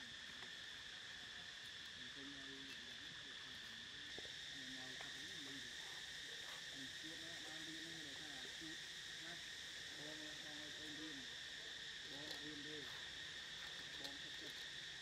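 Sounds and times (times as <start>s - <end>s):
faint insect chorus drone: 0.0s - 15.0s.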